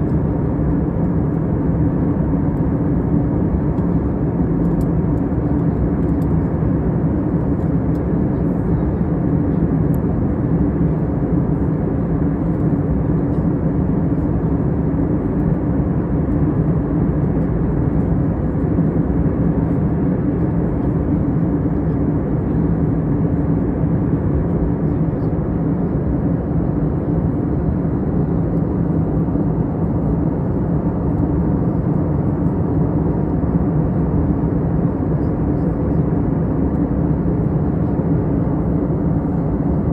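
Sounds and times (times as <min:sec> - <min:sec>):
constant low hum: 0:00.0 - 0:39.9
jet airliner cabin drone: 0:00.0 - 0:39.9.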